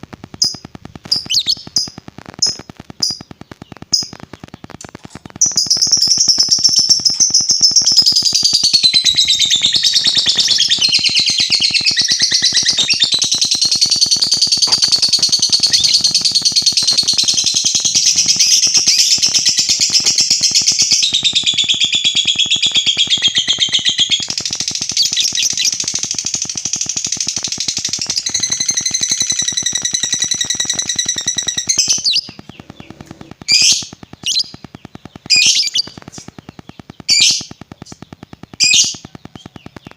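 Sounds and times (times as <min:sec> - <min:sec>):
bird chirps: 0:00.3 - 0:39.9
lovebird chattering trill: 0:00.4 - 0:39.8.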